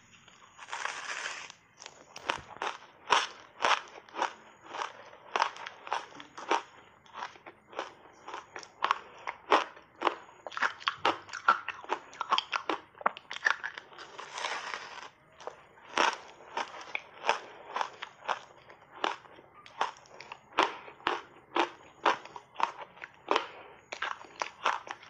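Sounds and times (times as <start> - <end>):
ice being chewed and crunched: 0.1 - 25.0.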